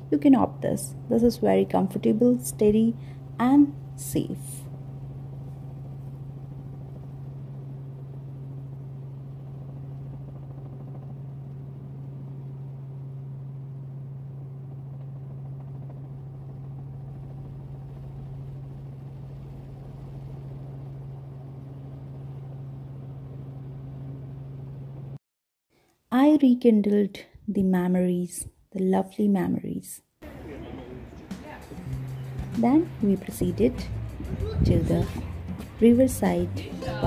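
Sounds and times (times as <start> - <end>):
helicopter engine and rotors: 0.0 - 25.2, 30.2 - 37.0.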